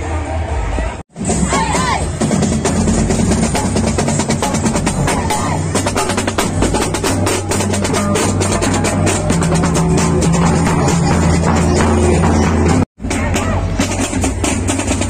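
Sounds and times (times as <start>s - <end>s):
bass drum beats: 1.1s - 15.0s
snare and tenor drums: 1.2s - 15.0s
steady low notes: 1.2s - 15.0s.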